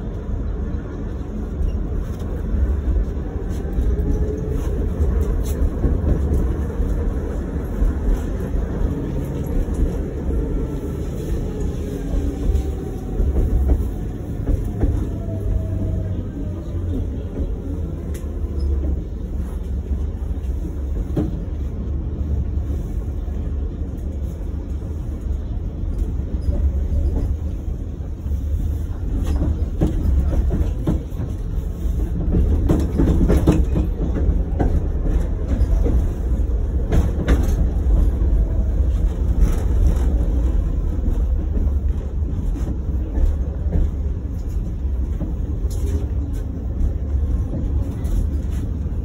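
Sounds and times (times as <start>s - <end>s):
tram rumble: 0.0s - 49.0s.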